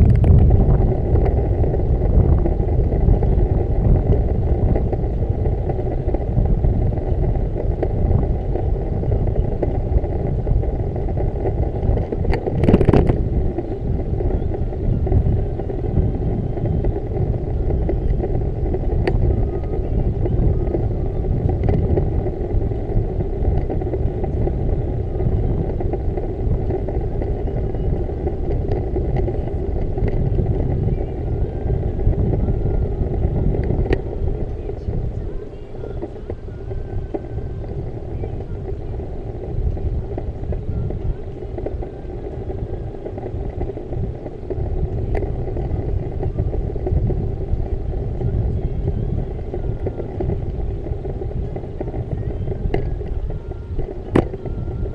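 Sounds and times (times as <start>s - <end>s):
bicycle road noise: 0.0s - 54.9s
wind noise on microphone: 0.0s - 54.9s.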